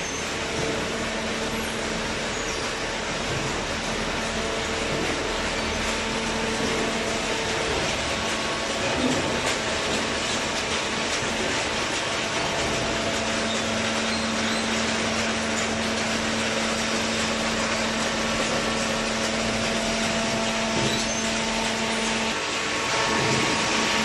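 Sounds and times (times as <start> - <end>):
baler machine noise: 0.0 - 24.0
steady machine hum: 0.0 - 24.0.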